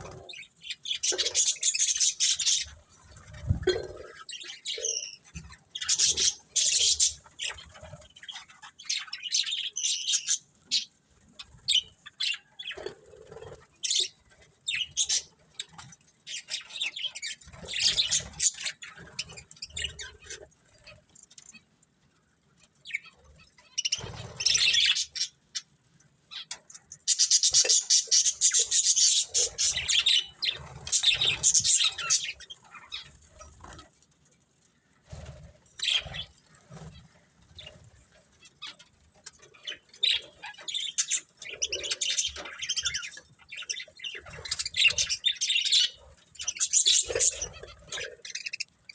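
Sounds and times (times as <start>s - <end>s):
budgerigars chirping and chattering: 0.0s - 21.0s, 22.8s - 25.7s, 26.3s - 33.9s, 35.1s - 48.9s.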